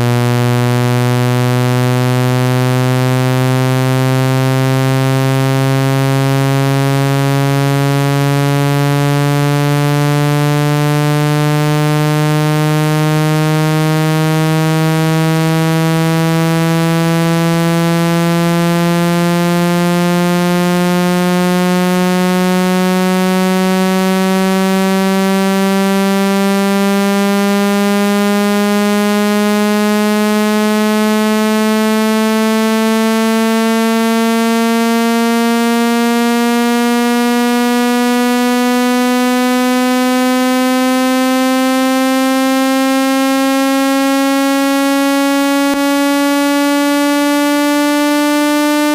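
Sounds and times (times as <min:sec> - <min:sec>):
buzzy low tone rising in pitch: 0:00.0 - 0:48.9.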